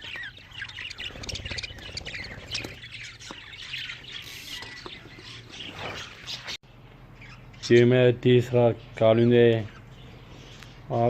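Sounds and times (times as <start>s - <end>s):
budgerigars chirping and squawking: 0.0s - 11.0s.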